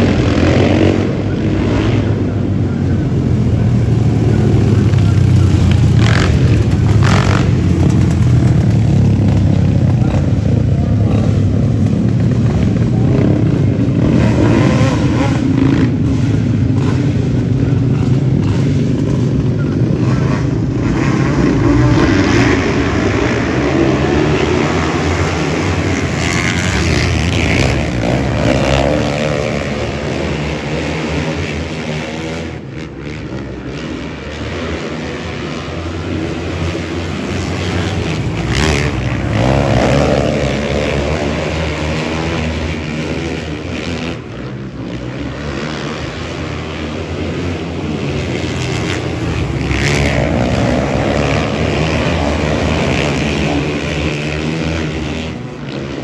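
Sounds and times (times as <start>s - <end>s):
motor engines revving: 0.0s - 56.0s.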